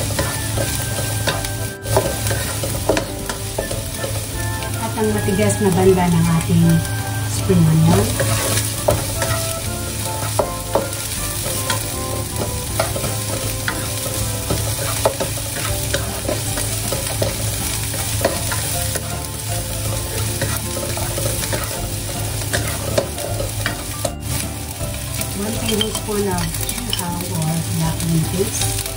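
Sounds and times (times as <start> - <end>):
oil sizzling in a wok: 0.0 - 28.9
spatula scraping and knocking pan: 0.0 - 28.9.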